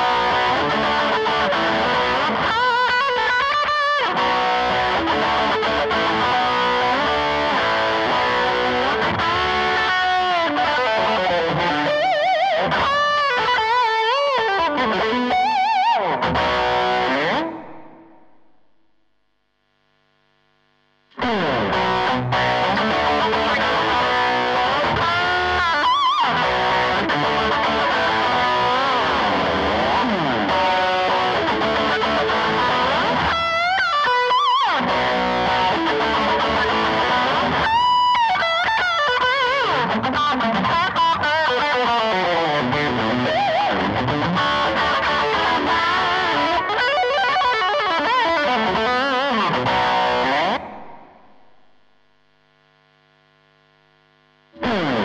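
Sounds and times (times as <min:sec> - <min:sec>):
distorted electric guitar lead: 0:00.0 - 0:55.0.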